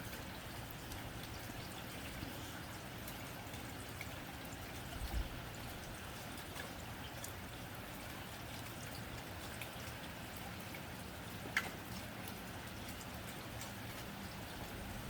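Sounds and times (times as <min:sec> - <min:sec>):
rain on a tin roof: 0:00.0 - 0:15.0.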